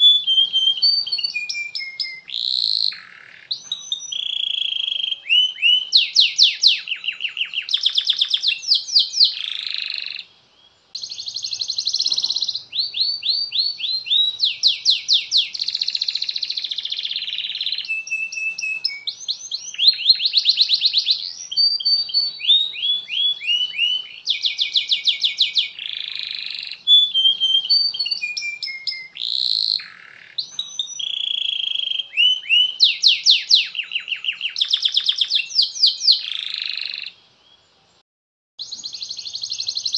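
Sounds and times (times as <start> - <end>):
canary singing trills: 0.0 - 37.6, 38.6 - 39.9.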